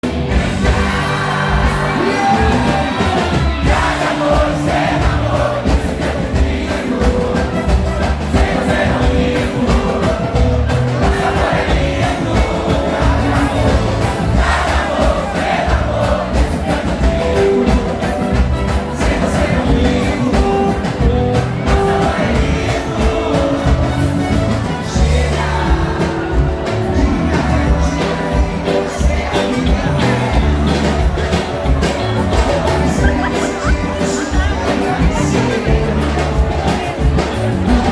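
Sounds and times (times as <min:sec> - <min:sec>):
heavy bass: 0:00.0 - 0:37.9
live band with singer: 0:00.0 - 0:37.9.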